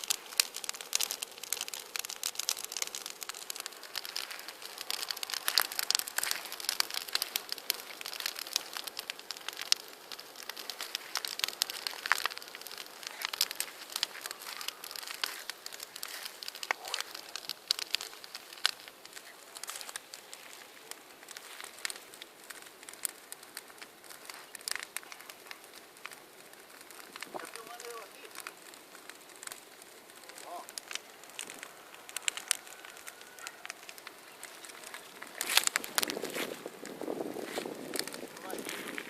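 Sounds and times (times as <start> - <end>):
bonfire crackling and popping: 0.0 - 39.0.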